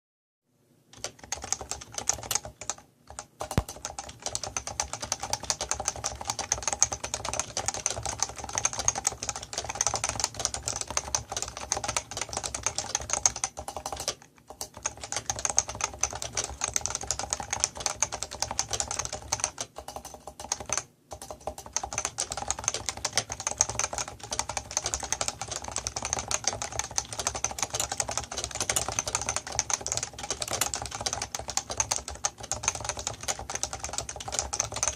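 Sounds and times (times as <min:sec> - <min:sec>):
keyboard typing: 0:00.9 - 0:34.9.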